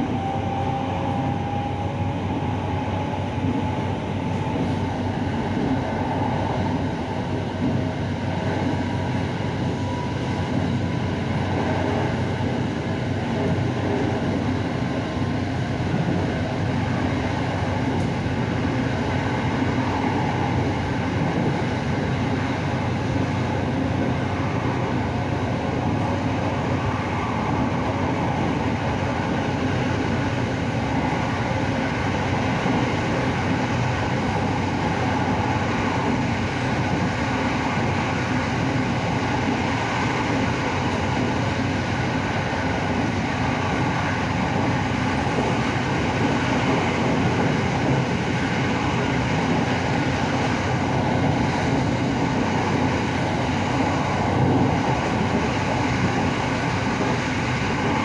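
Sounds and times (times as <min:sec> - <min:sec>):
train running noise from inside: 0:00.0 - 0:58.0.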